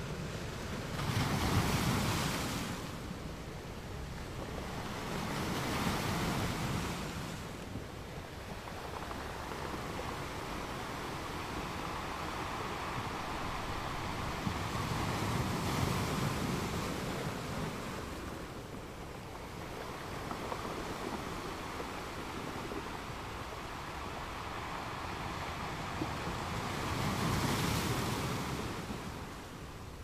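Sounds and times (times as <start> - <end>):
gusting wind: 0.0 - 30.0.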